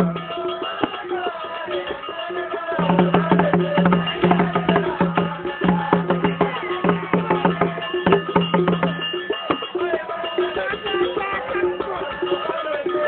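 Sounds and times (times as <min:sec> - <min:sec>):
held melodic tones: 0:00.0 - 0:13.0
rapid percussion music: 0:00.0 - 0:13.0.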